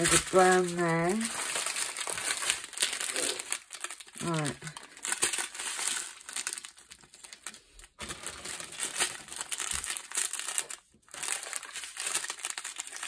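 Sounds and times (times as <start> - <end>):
small plastic bags crinkling: 0.0 - 13.0.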